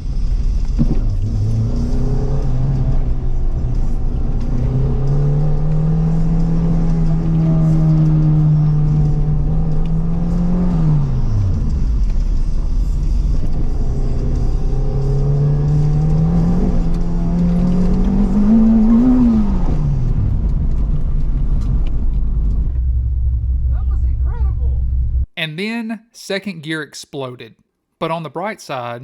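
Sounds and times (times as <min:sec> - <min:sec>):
four-cylinder car engine revving: 0:00.2 - 0:25.2.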